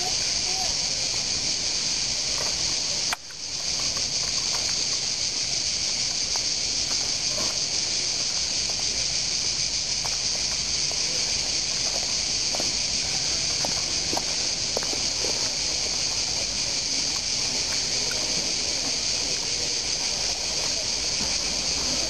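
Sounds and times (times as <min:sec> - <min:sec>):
crickets chirping drone: 0:00.0 - 0:22.0.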